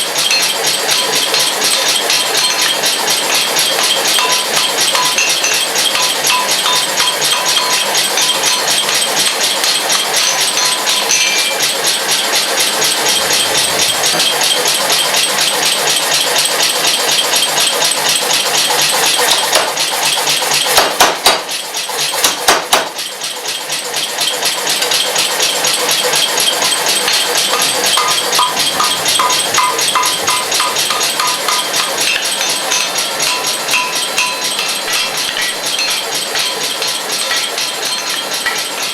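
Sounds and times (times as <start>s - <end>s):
forge air blower rushing: 0.0s - 21.5s, 24.6s - 38.9s.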